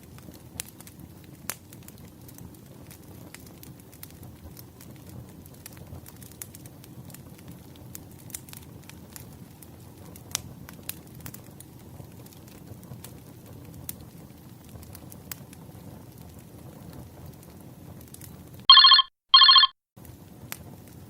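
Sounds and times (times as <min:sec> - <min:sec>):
bonfire crackling and popping: 0:00.0 - 0:18.7, 0:20.0 - 0:21.0.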